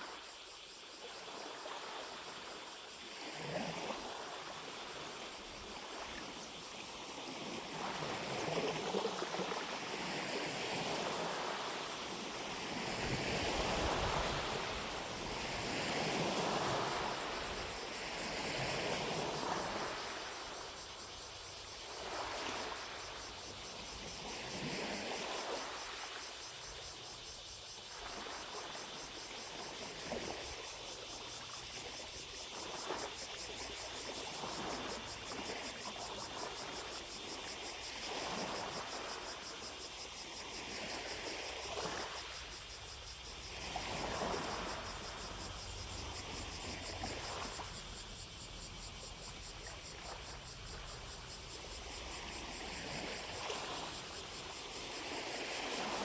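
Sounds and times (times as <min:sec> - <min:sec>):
distant cicadas droning: 0:00.0 - 0:56.0
lake waves lapping at shore: 0:01.0 - 0:56.0.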